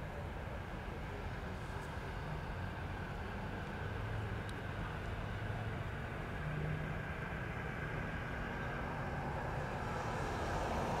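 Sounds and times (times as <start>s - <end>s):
faint engine hum: 0.0s - 11.0s
traffic rumble: 0.0s - 11.0s.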